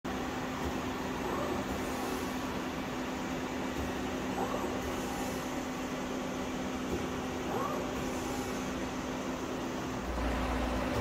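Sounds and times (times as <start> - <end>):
machine hum with rushing noise: 0.1 - 11.0.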